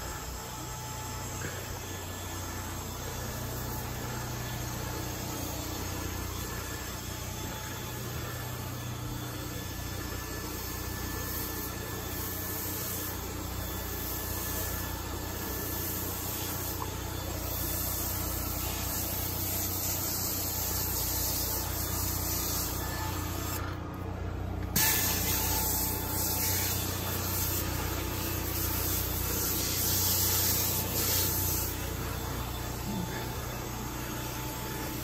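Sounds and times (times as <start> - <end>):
spray wand hissing: 0.0 - 23.6, 24.8 - 35.0
steady low hum: 0.0 - 35.0.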